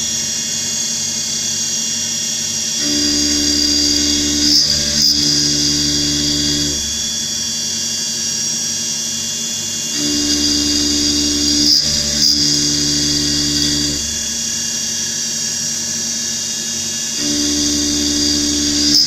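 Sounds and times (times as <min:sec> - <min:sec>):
milling machine spindle whine: 0:01.1 - 0:19.0.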